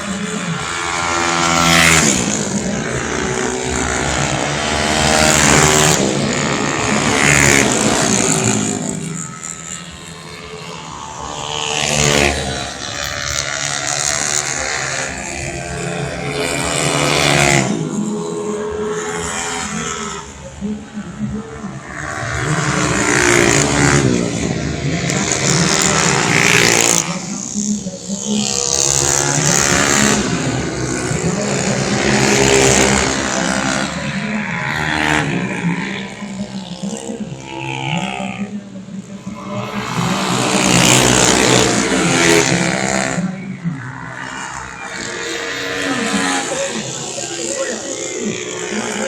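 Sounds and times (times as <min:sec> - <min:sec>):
racing scooters passing: 0:00.0 - 0:49.0.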